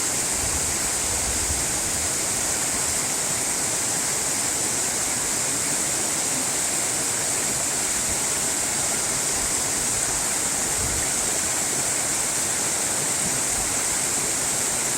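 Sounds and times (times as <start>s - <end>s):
rushing water: 0.0s - 14.9s.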